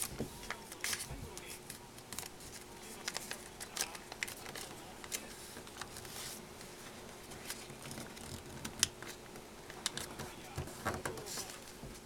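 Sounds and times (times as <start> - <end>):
paper rustling: 0.0 - 9.2, 9.8 - 12.0
paper crinkling and tapping: 0.0 - 12.0.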